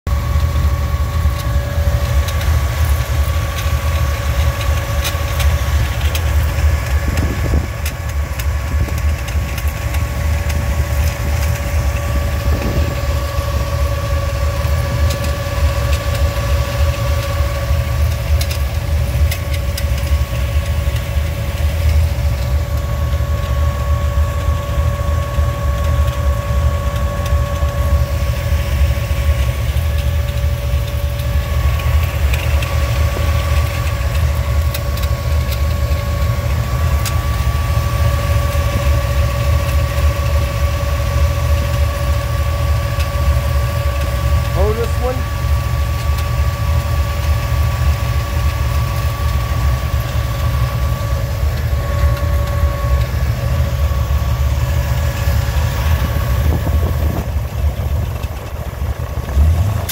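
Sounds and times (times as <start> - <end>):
car engine idling: 0.0 - 59.9
alternator whine: 0.1 - 59.9.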